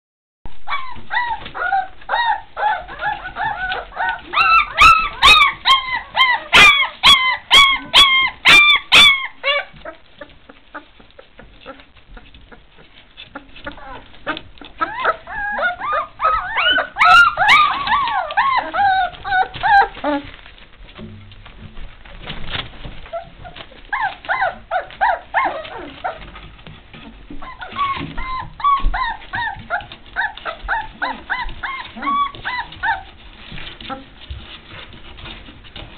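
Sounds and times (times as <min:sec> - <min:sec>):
puppies whining and yelping: 0:00.5 - 0:20.6, 0:23.0 - 0:35.9.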